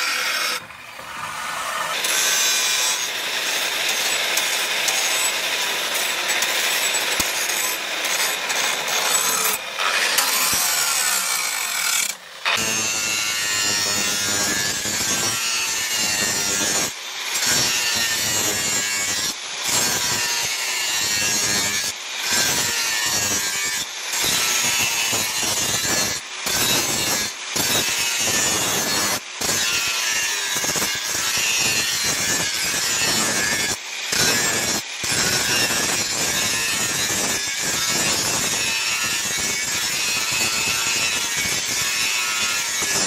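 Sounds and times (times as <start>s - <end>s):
angle grinder grinding steel: 0.0s - 43.0s.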